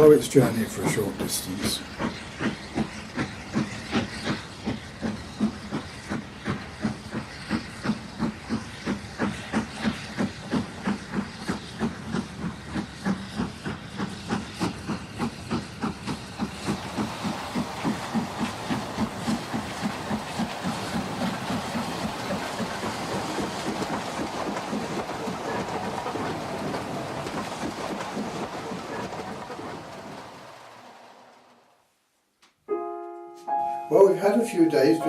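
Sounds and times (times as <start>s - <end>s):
model steam locomotive chuffing: 0.0s - 31.8s.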